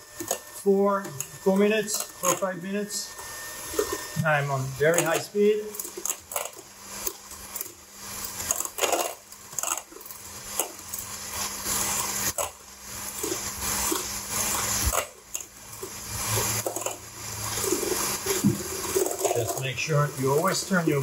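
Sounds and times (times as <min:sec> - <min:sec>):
electric hand mixer whipping: 0:00.0 - 0:21.0.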